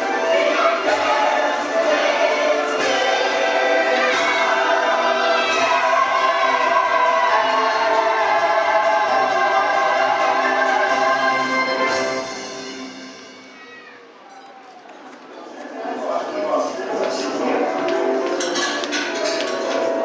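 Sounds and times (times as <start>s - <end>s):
music with choir singing: 0.0s - 13.4s, 16.9s - 20.0s.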